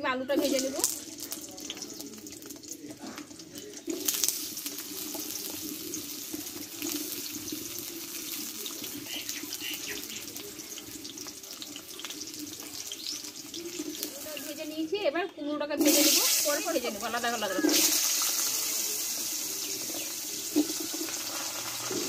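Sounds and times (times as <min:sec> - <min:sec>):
potato wedges sizzling in oil: 0:00.2 - 0:22.0.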